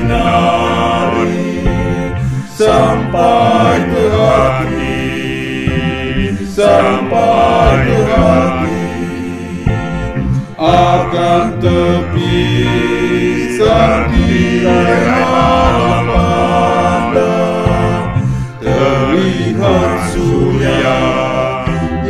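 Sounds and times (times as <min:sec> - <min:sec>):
male quartet singing a hymn: 0:00.0 - 0:22.0.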